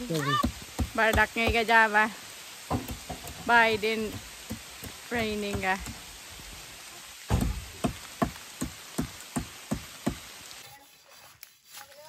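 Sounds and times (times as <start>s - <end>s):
light rain hissing: 0.0s - 12.0s.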